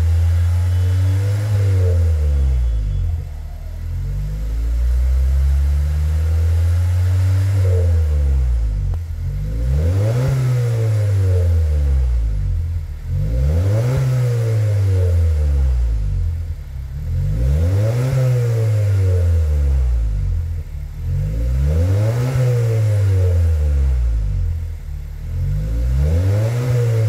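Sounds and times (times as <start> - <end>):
car exhaust revving: 0.0 - 27.0.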